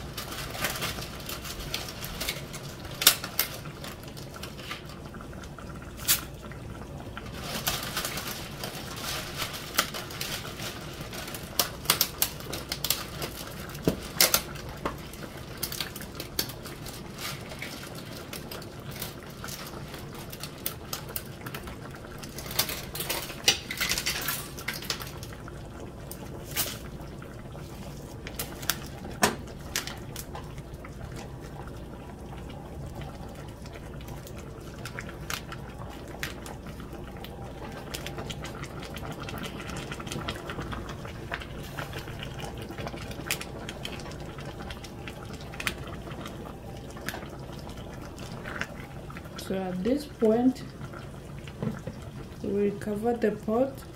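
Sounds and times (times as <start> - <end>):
dry spaghetti clicking and clattering: 0.0 - 49.5
sauce bubbling softly: 0.0 - 53.9.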